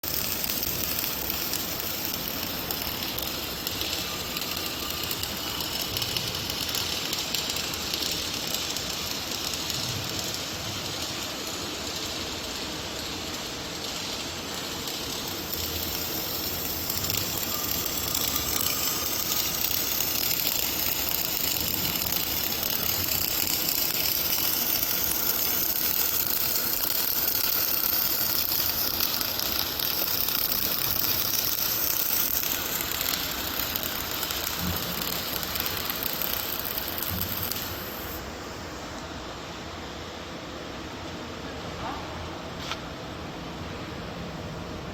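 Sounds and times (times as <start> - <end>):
welding arc crackling hiss: 0.0 - 41.2.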